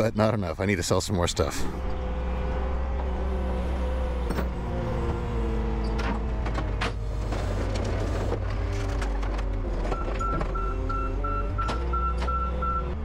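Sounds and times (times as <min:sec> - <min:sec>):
diesel engine running: 0:01.2 - 0:13.0
hydraulic whine: 0:01.5 - 0:13.0.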